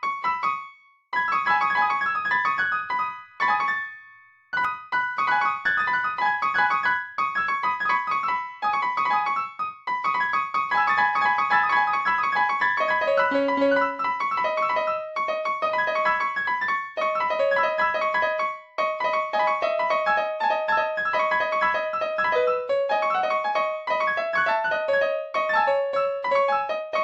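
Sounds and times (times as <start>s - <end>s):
piano music: 1.2s - 27.0s.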